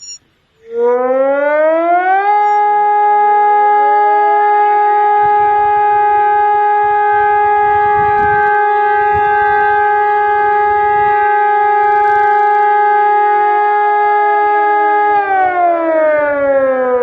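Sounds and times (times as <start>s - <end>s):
siren steady tone: 0.0s - 17.0s.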